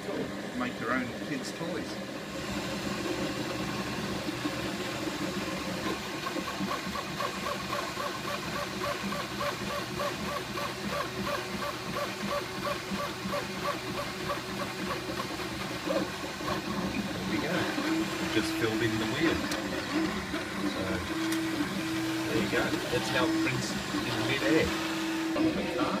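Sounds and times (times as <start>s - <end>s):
cooling fans whirring: 0.0s - 26.0s
stepper motors whining in pulses: 2.2s - 26.0s.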